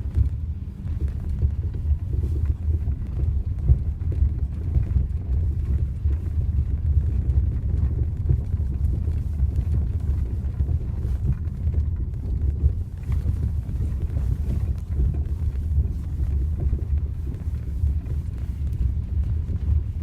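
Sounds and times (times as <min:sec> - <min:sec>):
road rumble inside car: 0:00.0 - 0:20.0.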